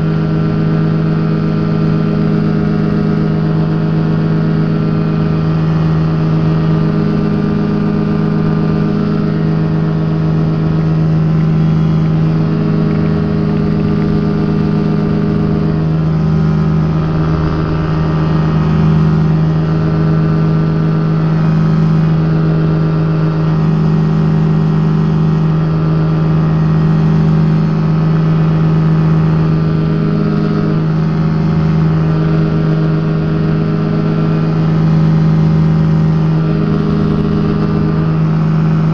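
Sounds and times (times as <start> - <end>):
ultralight aircraft engine droning: 0.0 - 38.9.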